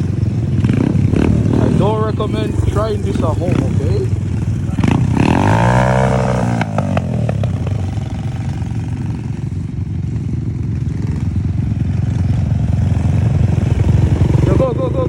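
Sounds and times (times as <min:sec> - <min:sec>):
scooter low rumble: 0:00.0 - 0:15.0.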